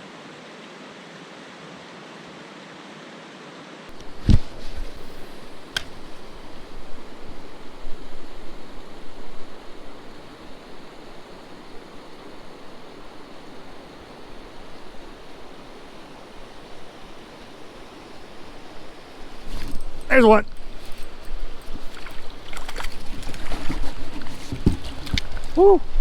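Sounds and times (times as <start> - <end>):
river rushing: 0.1 - 26.0.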